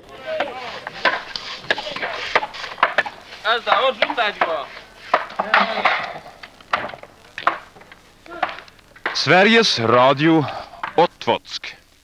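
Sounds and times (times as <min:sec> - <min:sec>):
hammer blows on timber: 0:00.2 - 0:11.0.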